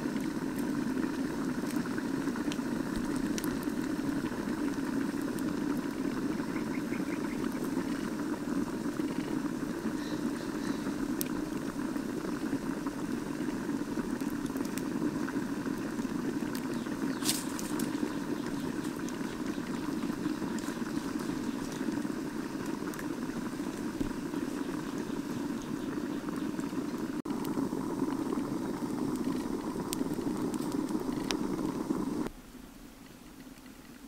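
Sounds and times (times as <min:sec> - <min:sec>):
burning wood crackling: 0:00.0 - 0:32.3
low rushing fire sound: 0:00.0 - 0:32.3.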